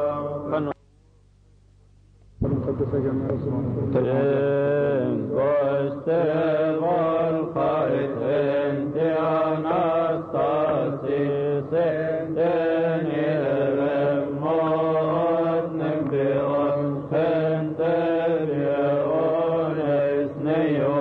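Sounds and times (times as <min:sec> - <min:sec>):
steady low hum: 0:00.0 - 0:21.0
voices chanting in unison: 0:04.0 - 0:21.0.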